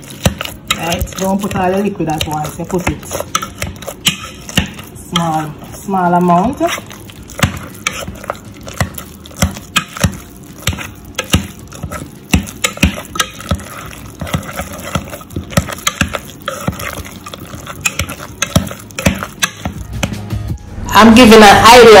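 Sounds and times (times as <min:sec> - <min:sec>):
mashed potatoes squelching: 0:00.0 - 0:20.4.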